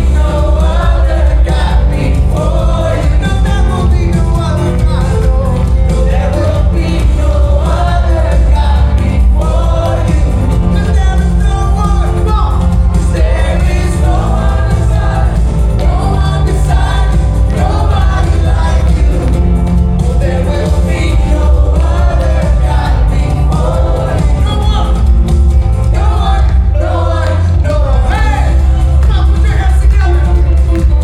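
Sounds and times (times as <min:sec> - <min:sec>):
heavy steady bass: 0:00.0 - 0:31.0
people singing: 0:00.0 - 0:31.0
worship band playing: 0:00.0 - 0:31.0.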